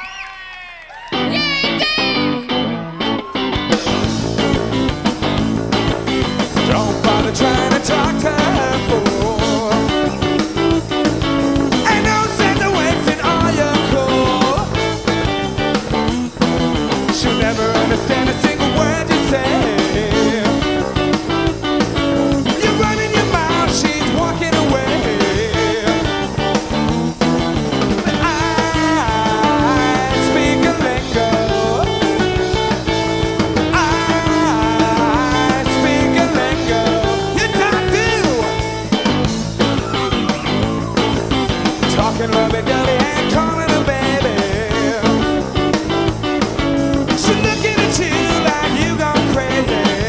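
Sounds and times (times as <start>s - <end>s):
rock band playing live: 1.0s - 50.0s
lead guitar with bending pitches: 1.1s - 50.0s.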